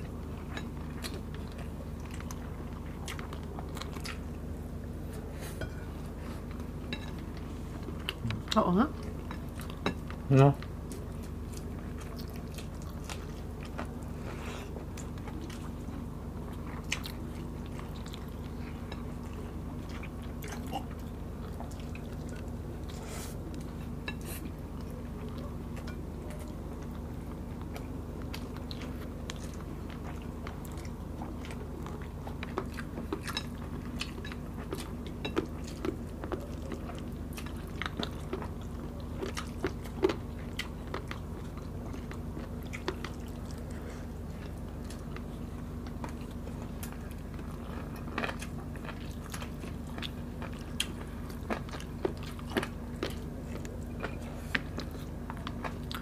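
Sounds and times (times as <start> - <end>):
chewing and biting food: 0.0 - 56.0
steady low hum: 0.0 - 56.0.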